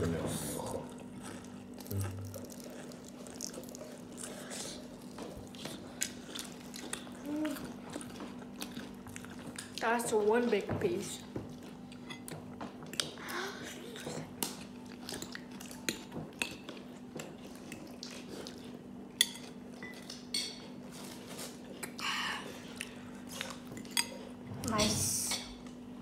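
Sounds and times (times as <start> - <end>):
chewing fried chicken: 0.0 - 10.3, 11.4 - 24.4.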